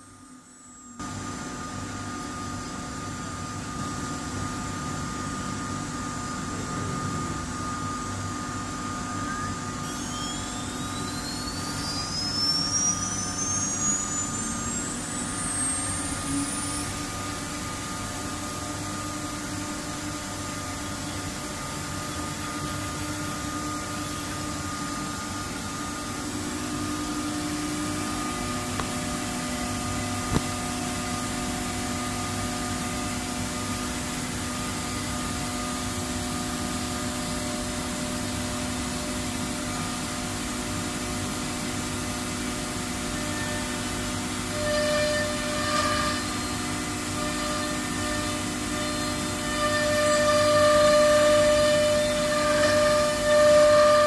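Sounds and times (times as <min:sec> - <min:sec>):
cnc router mechanical hum: 0:00.0 - 0:54.0
high whine rising in pitch: 0:00.0 - 0:54.0.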